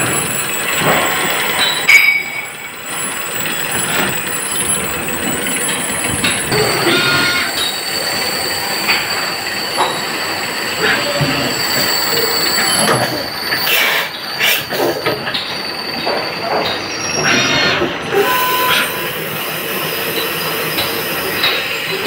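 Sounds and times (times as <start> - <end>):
machinery whining: 0.0 - 22.0.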